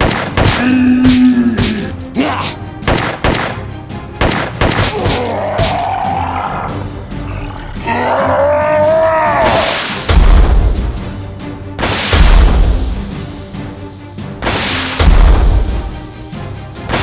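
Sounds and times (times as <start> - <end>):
dramatic action music: 0.0 - 17.0.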